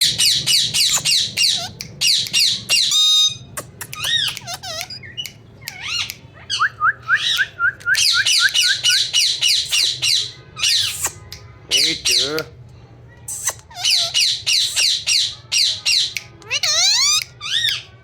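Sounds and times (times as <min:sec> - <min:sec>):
parrot squawking: 0:00.0 - 0:12.4, 0:13.3 - 0:18.0.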